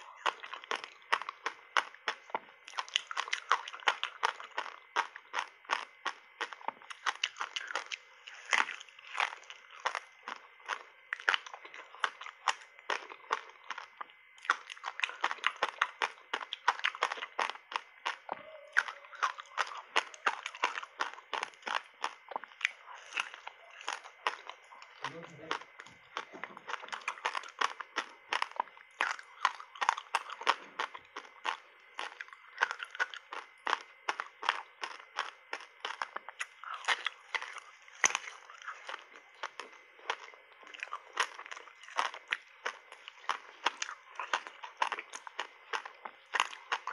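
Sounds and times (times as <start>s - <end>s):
ice crunching between teeth: 0.0s - 46.9s.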